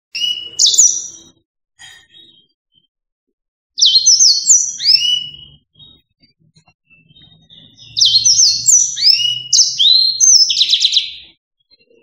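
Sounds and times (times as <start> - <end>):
canary singing whistled notes: 0.1 - 2.9, 3.8 - 12.0.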